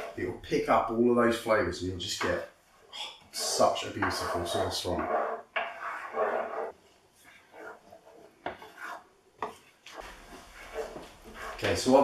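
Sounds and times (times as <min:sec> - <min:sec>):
wooden spoon scraping a pan: 0:00.0 - 0:12.0.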